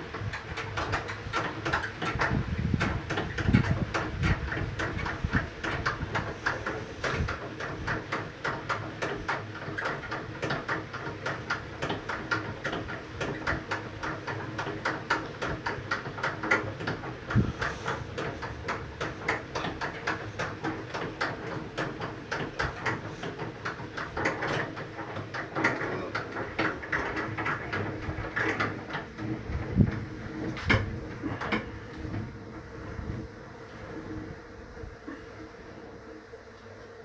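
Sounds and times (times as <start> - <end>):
honey extractor rattling: 0.0 - 33.5.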